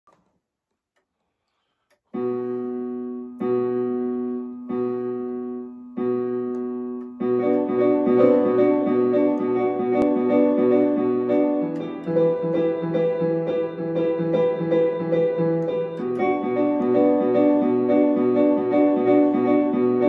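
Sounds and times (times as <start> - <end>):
electronic keyboard playing: 2.2 - 20.0.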